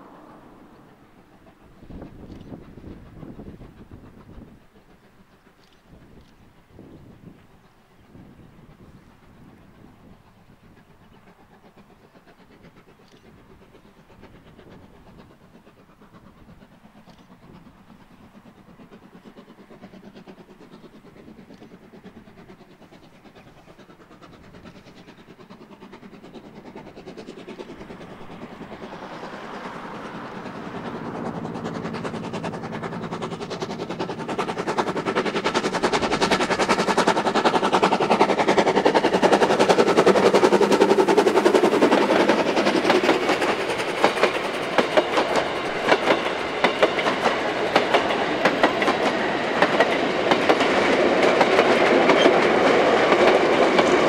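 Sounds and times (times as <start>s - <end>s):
steam tram train clattering past: 0.0s - 54.0s.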